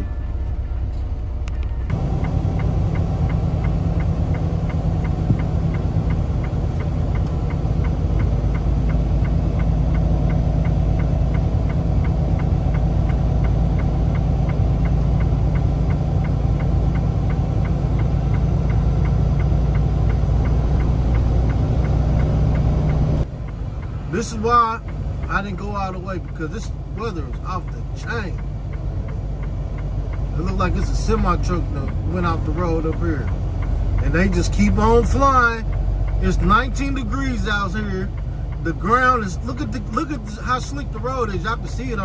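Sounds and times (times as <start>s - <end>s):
truck engine and road rumble: 0.0s - 42.0s
light regular ticking: 1.4s - 42.0s.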